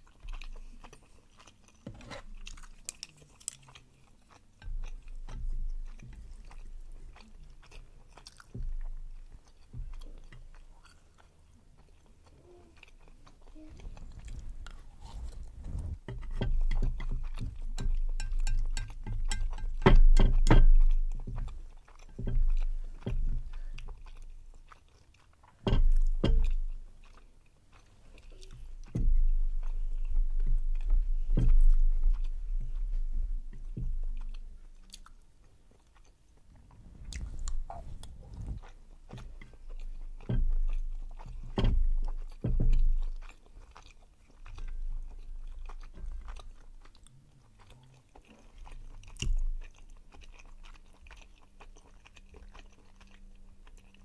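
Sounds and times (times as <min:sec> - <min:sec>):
chewing rice cakes: 0:00.0 - 0:54.0.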